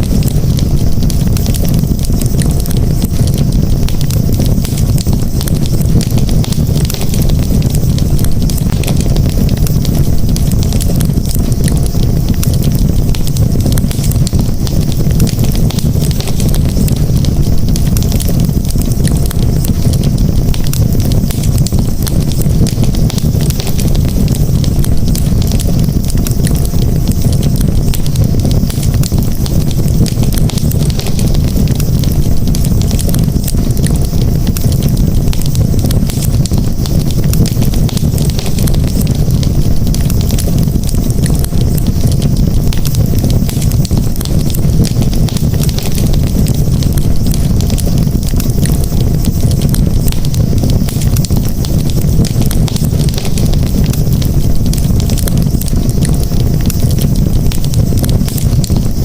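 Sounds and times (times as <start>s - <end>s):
burning wood crackling and popping: 0.0s - 59.0s
low rumble of flames: 0.0s - 59.0s.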